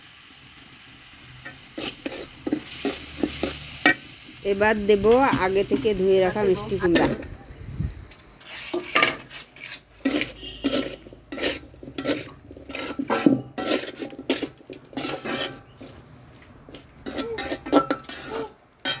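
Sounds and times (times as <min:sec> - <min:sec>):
metal spatula scraping a wok: 0:01.3 - 0:07.3, 0:08.4 - 0:19.0.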